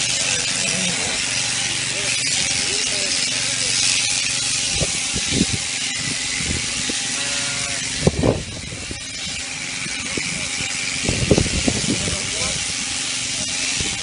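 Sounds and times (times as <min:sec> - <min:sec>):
cutter hissing: 0:00.0 - 0:14.0
shearing machine buzzing: 0:00.0 - 0:14.0.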